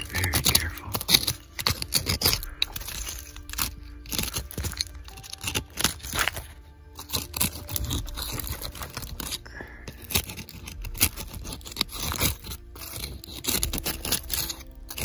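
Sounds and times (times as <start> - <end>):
scraping and crunching of soil: 0.0 - 15.0
small crackles and clicks: 0.0 - 15.0.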